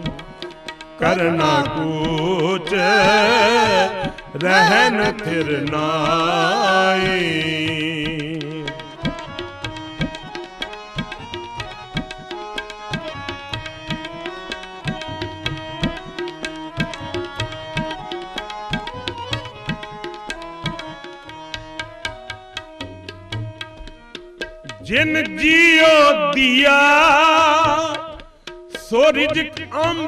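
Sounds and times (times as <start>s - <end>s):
harmonium melody: 0.0s - 30.0s
tabla beat: 0.0s - 30.0s.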